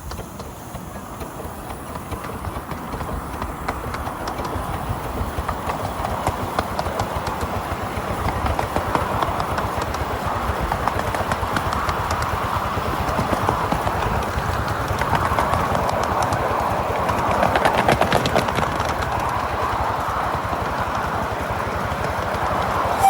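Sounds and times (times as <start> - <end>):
train wheels clicking over rail joints: 0.0 - 23.0.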